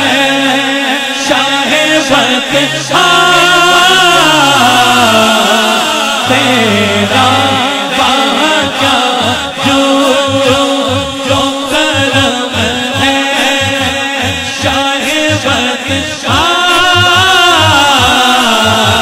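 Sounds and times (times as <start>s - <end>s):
low held vocal layer: 0.0s - 19.0s
melodic devotional singing: 0.0s - 19.0s
steady rhythmic pulse: 0.0s - 19.0s.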